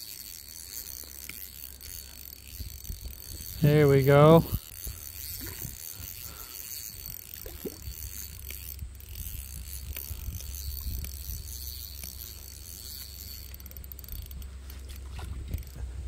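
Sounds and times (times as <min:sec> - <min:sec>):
fishing reel whirring and ticking: 0:00.0 - 0:16.0.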